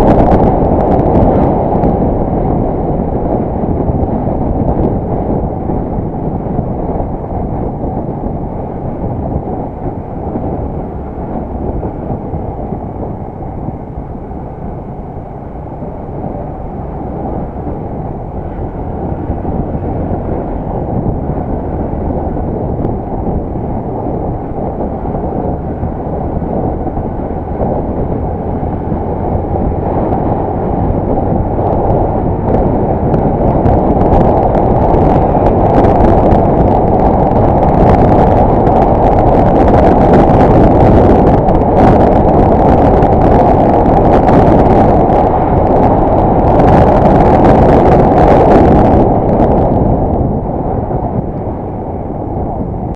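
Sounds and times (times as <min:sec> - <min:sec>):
crackling wind buffets: 0:00.0 - 0:52.9
motorcycle engine running: 0:00.0 - 0:52.9
wind rushing over microphone: 0:00.0 - 0:52.9.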